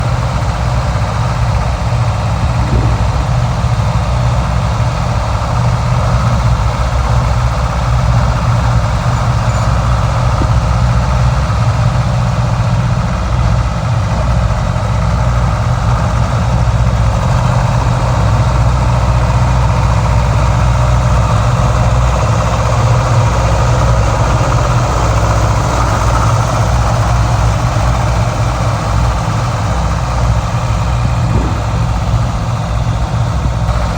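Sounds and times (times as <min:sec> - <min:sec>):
diesel engine rumbling: 0:00.0 - 0:33.9.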